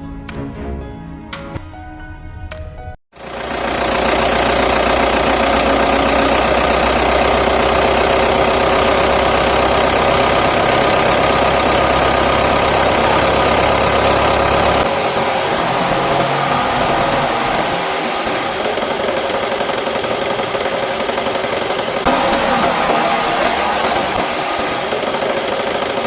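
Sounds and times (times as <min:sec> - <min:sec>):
vehicle engine idling: 0:03.2 - 0:26.0.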